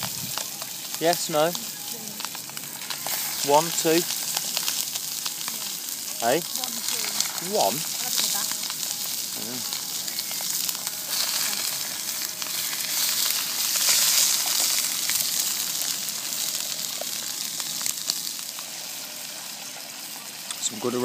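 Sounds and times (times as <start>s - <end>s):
sausages sizzling in a frying pan: 0.0s - 21.0s.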